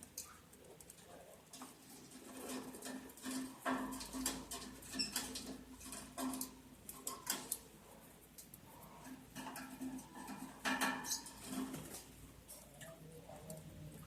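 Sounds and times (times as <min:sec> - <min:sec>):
birds scratching and rustling: 0:00.0 - 0:14.0.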